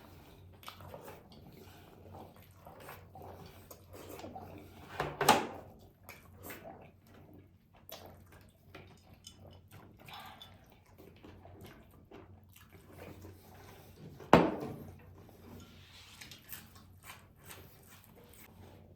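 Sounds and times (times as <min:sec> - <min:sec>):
wet chewing: 0:00.0 - 0:04.9, 0:05.6 - 0:14.2, 0:14.9 - 0:18.9.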